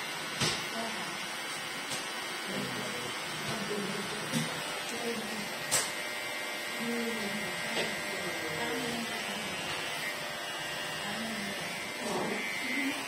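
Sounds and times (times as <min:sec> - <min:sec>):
electric hair clipper whining: 0:00.0 - 0:13.0.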